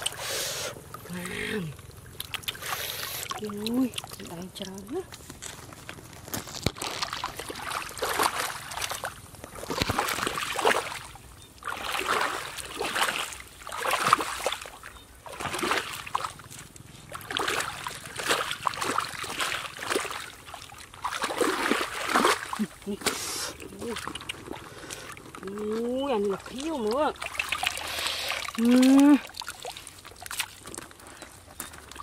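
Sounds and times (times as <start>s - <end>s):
boots splashing through muddy water: 2.7s - 32.0s.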